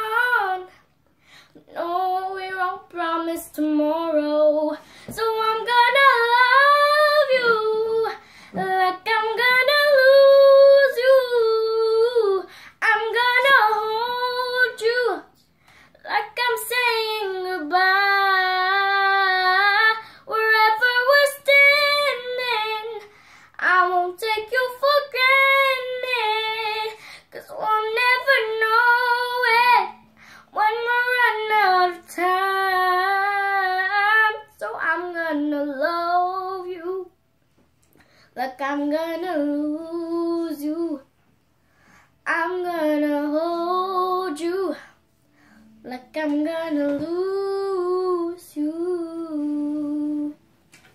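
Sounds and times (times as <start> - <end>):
girl singing a cappella: 0.0 - 37.2, 38.2 - 41.2, 42.1 - 50.5.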